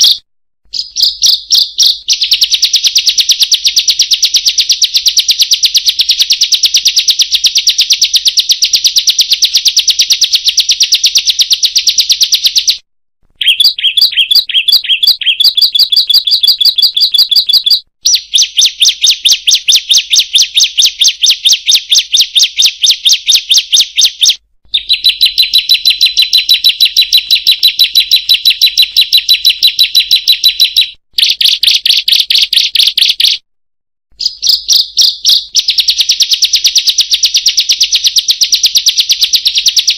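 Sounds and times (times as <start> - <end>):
songbird chattering trill: 0.0 - 12.8, 13.4 - 33.4, 34.2 - 36.7.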